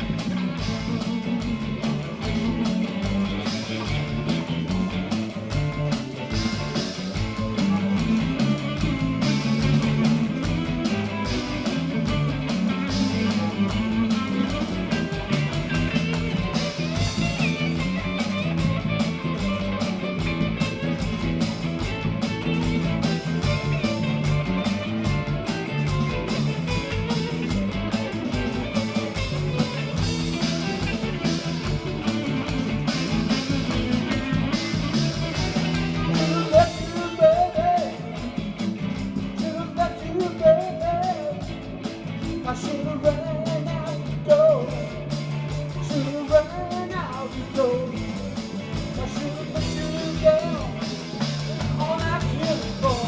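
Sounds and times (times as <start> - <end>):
bass line: 0.0 - 53.0
blues-rock guitar: 0.0 - 53.0
drums: 0.0 - 53.0.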